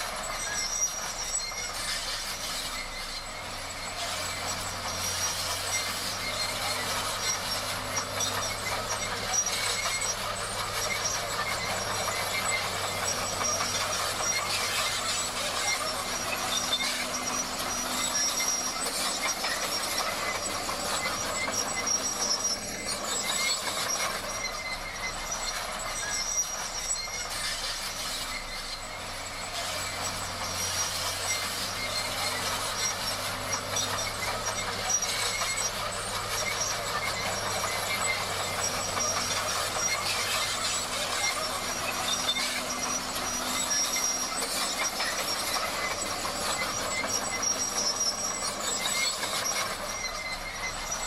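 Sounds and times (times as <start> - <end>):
bulldozer diesel engine: 0.0 - 51.0
steel tracks clattering and squealing: 0.0 - 51.0.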